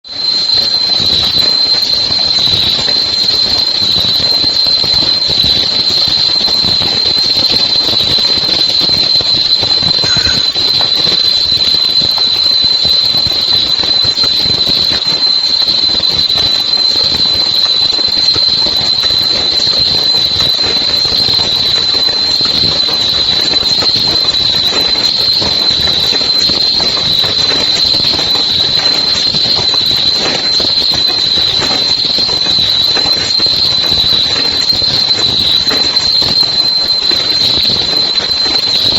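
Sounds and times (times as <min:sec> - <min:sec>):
machine high-pitched whine: 0:00.0 - 0:38.9.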